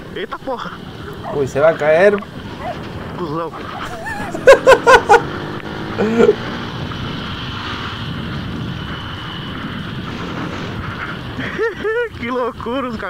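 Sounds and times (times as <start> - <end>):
wind rushing over microphone: 0.0 - 13.0
small motorcycle engine running: 0.6 - 12.2.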